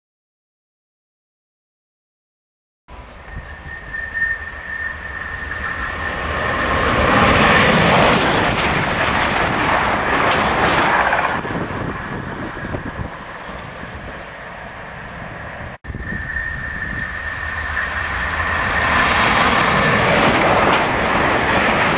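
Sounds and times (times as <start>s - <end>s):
high-pitched train whine: 2.9s - 21.9s
passenger train passing: 2.9s - 21.9s
wheel and rail noise: 2.9s - 21.9s.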